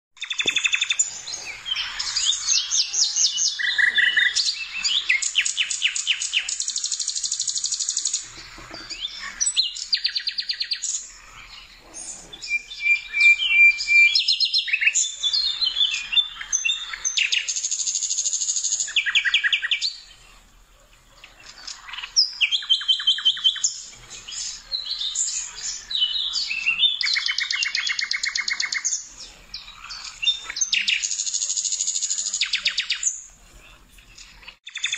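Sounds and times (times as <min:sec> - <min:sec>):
songbird trills and chirps: 0:00.2 - 0:34.9.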